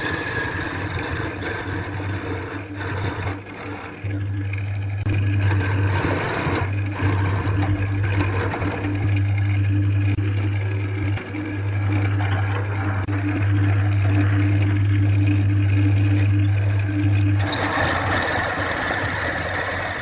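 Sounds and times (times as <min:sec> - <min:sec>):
wood lathe motor hum: 0:00.0 - 0:20.0.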